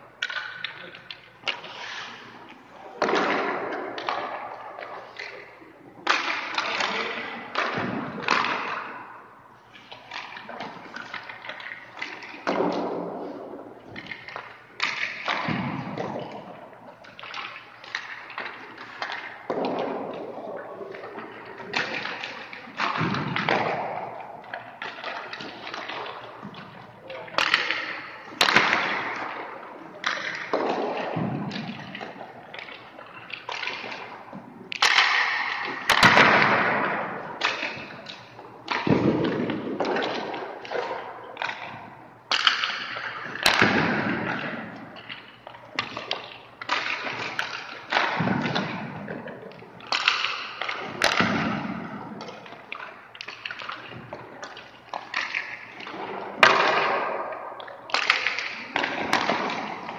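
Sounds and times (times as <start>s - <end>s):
pucks and sticks cracking: 0.2s - 59.9s.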